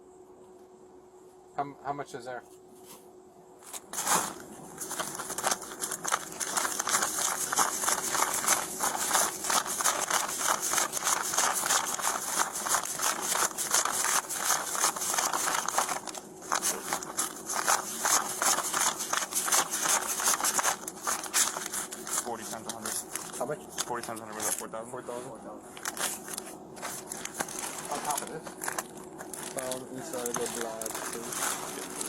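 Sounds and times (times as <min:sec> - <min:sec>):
banknotes rustling and snapping: 0:03.6 - 0:24.7, 0:25.8 - 0:32.0.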